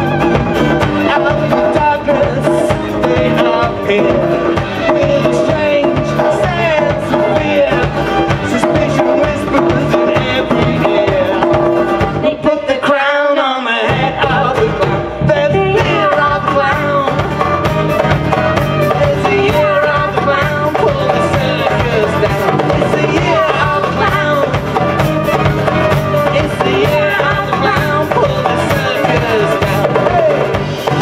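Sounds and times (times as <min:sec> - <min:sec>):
folk-rock band playing: 0:00.0 - 0:31.0
person singing: 0:00.0 - 0:31.0.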